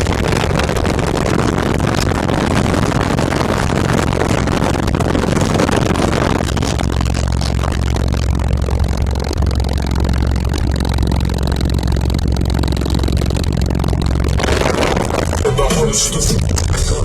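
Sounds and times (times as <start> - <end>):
loud deep bass from car subwoofers: 0.0 - 17.0.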